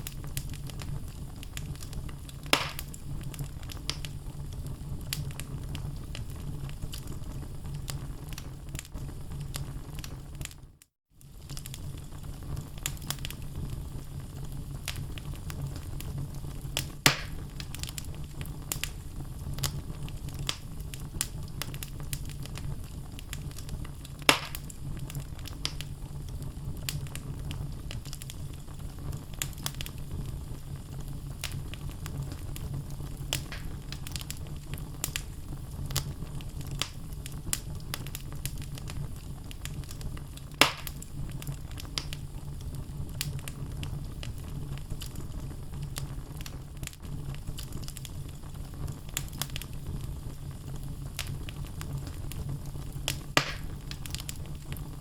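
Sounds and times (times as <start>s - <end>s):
loud fire pops: 0.0s - 10.6s, 11.2s - 55.0s
low rumble of flames: 0.0s - 55.0s
wood logs crackling in fireplace: 0.0s - 55.0s.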